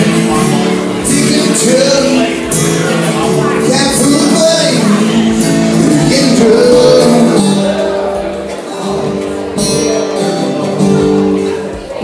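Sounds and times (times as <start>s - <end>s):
man singing into a microphone: 0.0s - 9.8s
acoustic guitar strumming: 0.0s - 12.0s.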